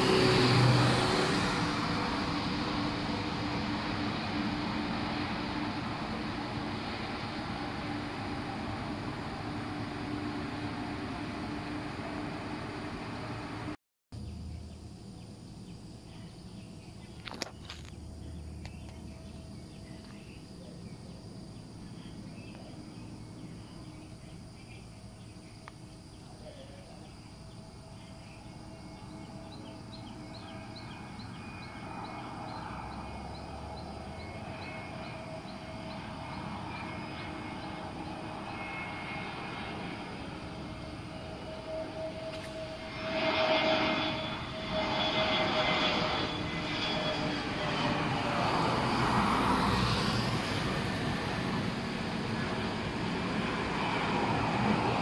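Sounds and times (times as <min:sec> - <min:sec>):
distant jet engines: 0:00.0 - 0:55.0
outdoor background noise: 0:00.0 - 0:55.0.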